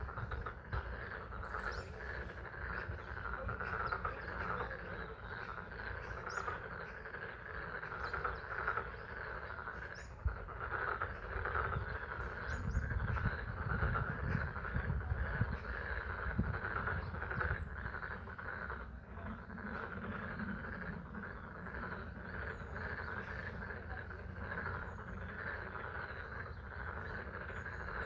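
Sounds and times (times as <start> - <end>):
frogs calling in chorus: 0.0 - 28.0.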